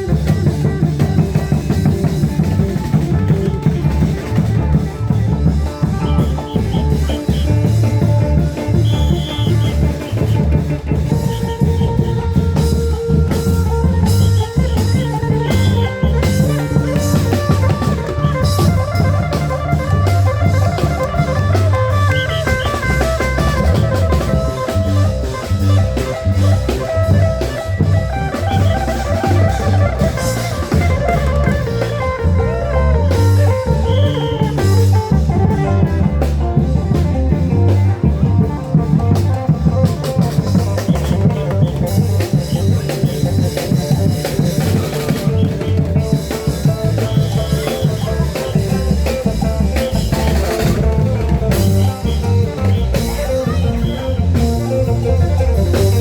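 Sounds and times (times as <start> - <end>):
drums driving beat: 0.0 - 56.0
plucked guitar melody: 0.0 - 56.0.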